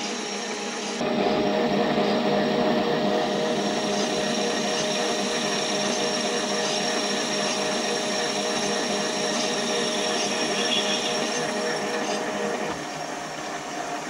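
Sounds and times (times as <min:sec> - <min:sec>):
metal lathe cutting: 0:00.0 - 0:14.0.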